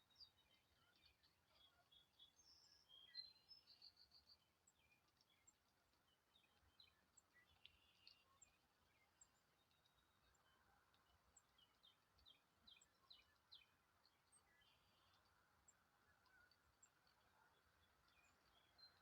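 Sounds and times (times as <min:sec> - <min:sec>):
outdoor background noise: 0:00.0 - 0:19.0
songbirds chirping: 0:00.0 - 0:19.0.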